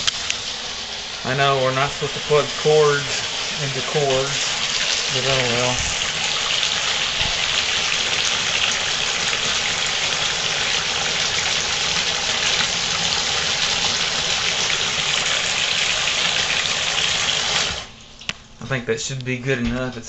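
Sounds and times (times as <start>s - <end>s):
water gushing into a tub: 0.0s - 18.3s.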